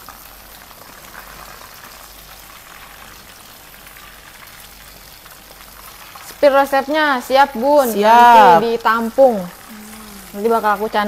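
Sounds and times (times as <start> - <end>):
chicken deep-frying in oil: 0.0 - 8.0, 8.6 - 11.0.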